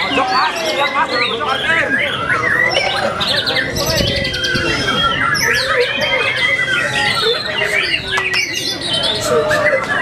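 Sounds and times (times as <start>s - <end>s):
birds singing whistled phrases: 0.0s - 10.0s
crowd talking: 0.0s - 10.0s.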